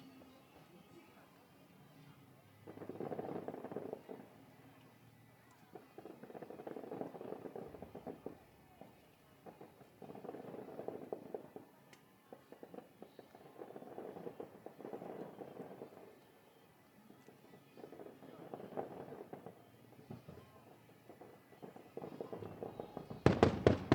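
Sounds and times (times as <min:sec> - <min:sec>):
fireworks crackling: 0:02.6 - 0:05.0, 0:05.6 - 0:16.4, 0:17.1 - 0:23.9.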